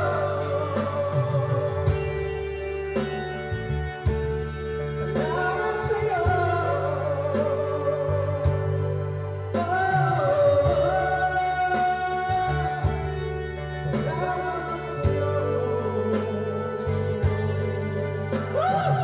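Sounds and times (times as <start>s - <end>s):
amplified backing music: 0.0s - 19.0s
man singing into microphone: 0.0s - 19.0s.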